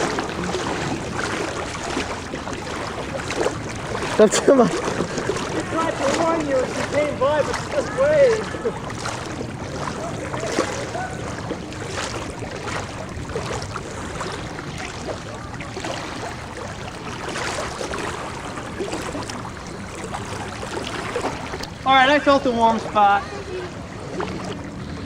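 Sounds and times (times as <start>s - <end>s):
floodwater sloshing as people wade: 0.0s - 25.0s
sharp water splashes: 0.0s - 25.0s.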